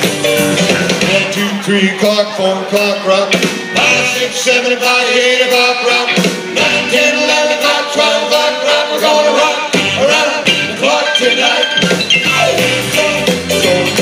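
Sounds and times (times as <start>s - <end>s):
live rock and roll band: 0.0s - 14.0s.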